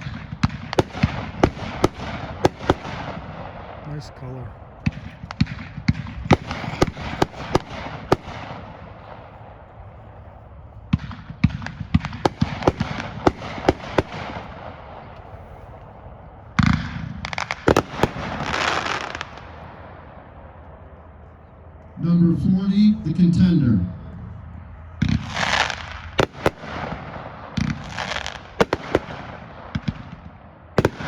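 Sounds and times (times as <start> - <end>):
firework bangs: 0.0 - 9.7, 10.9 - 20.6, 25.0 - 31.0.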